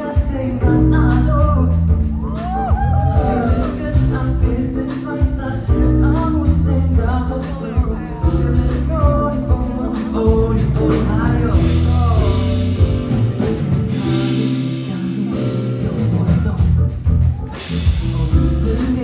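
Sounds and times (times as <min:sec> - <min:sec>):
live pop-rock band: 0:00.0 - 0:19.0
person singing wordless melody: 0:00.0 - 0:19.0.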